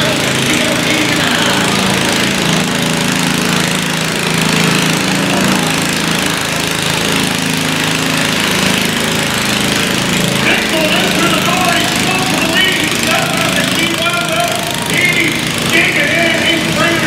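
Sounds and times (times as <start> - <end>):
lawn tractor engine running loud: 0.0 - 17.0.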